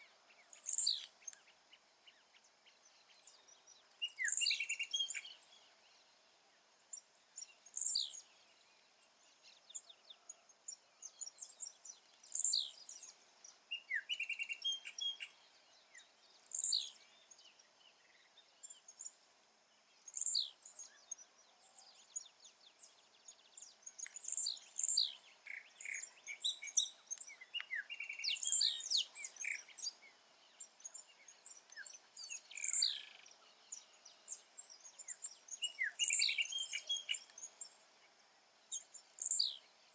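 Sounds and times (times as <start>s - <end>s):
bird singing short sharp phrases: 0.0s - 6.1s, 11.0s - 19.2s, 19.9s - 39.9s
faint bird chirps: 0.0s - 39.9s.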